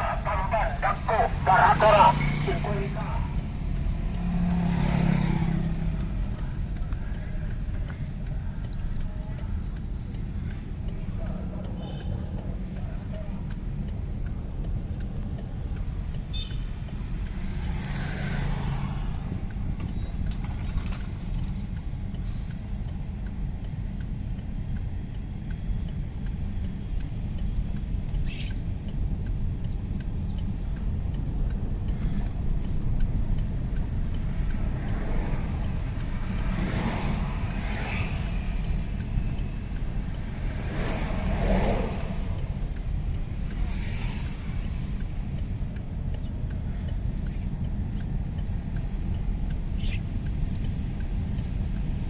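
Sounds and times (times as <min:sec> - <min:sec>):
diesel engine rumbling: 0:00.0 - 0:52.0.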